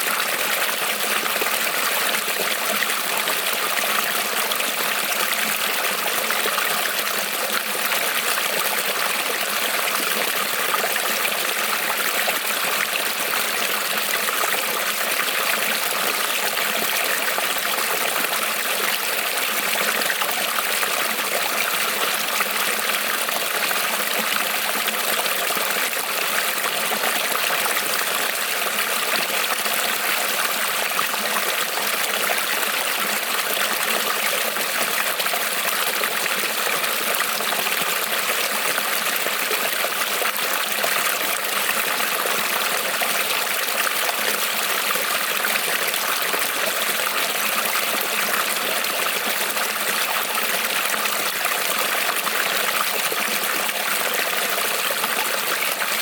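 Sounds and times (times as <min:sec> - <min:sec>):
creek trickling over stones: 0:00.0 - 0:56.0.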